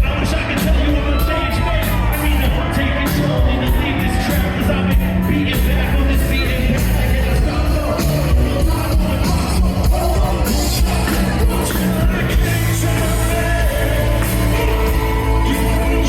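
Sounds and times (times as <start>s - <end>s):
drums: 0.0s - 16.0s
guitars: 0.0s - 16.0s
heavy bass line: 0.0s - 16.0s
person singing: 0.0s - 16.0s.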